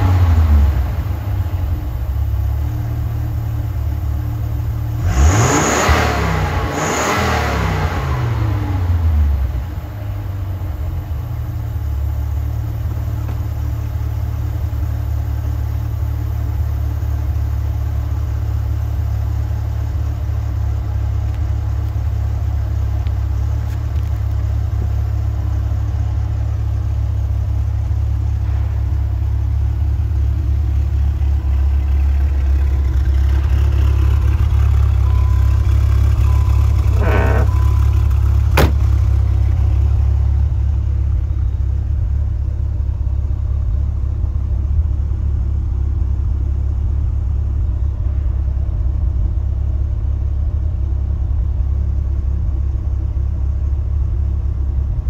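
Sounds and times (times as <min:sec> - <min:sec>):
car engine idling deeply: 0:00.0 - 0:55.0.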